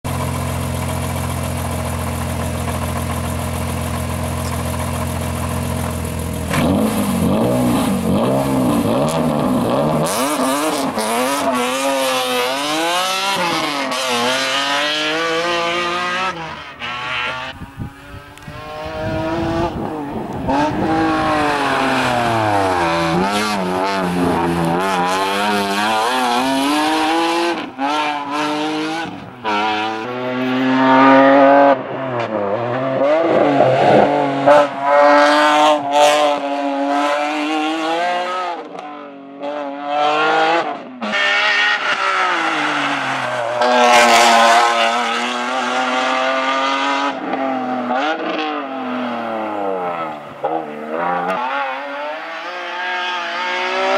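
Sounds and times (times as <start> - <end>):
race car engine revving: 0.1 - 53.9.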